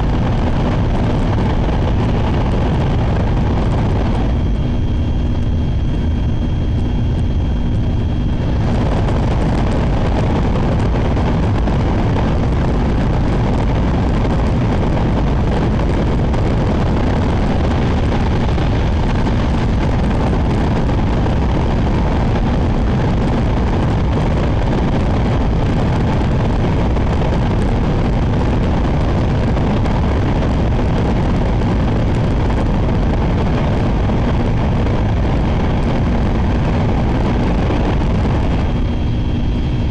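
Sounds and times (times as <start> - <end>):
high-speed train rumble inside car: 0.0 - 39.9.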